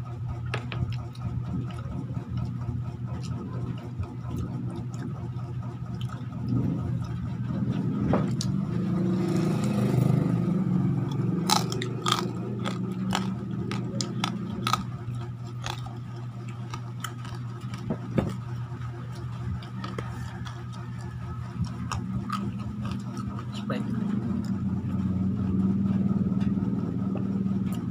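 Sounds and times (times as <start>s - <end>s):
crunching and chewing food: 0.0s - 26.0s, 27.2s - 27.9s
low hum: 0.0s - 27.9s.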